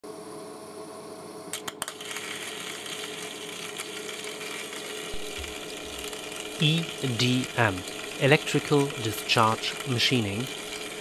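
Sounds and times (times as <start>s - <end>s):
electrical hum: 0.0s - 11.0s
crackle of sparks: 1.5s - 11.0s.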